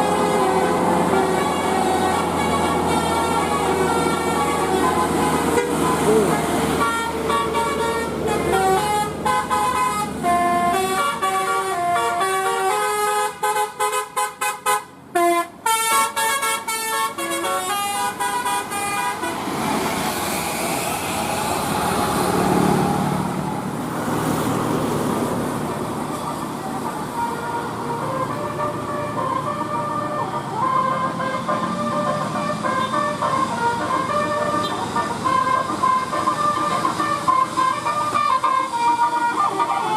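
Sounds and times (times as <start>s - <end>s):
multi-tone bus horn tune: 0.0s - 19.9s, 25.8s - 39.9s.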